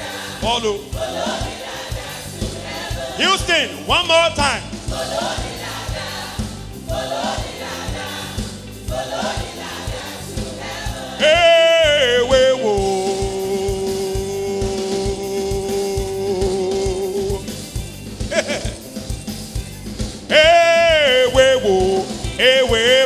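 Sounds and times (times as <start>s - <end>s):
choir singing: 0.0s - 4.0s, 4.7s - 17.5s, 20.3s - 23.0s
band with drums: 0.0s - 23.0s.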